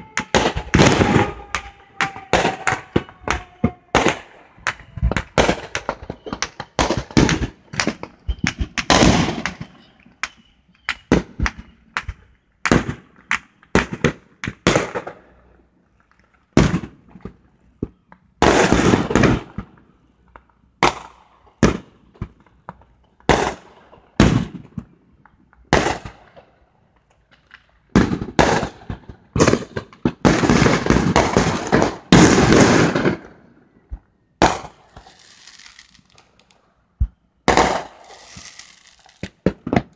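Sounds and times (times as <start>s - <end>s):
fireworks bangs and pops: 0.0s - 39.9s.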